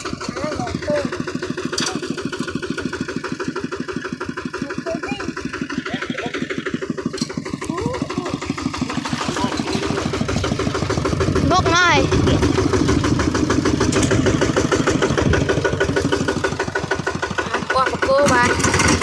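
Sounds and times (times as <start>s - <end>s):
tractor engine chugging: 0.0s - 19.0s.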